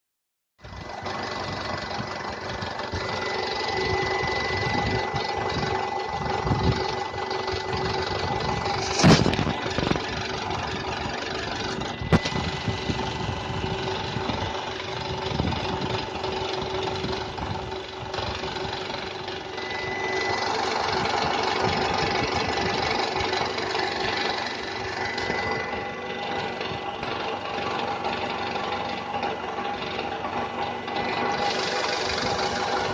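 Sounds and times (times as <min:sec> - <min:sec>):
car engine running with knock: 0:00.6 - 0:32.9.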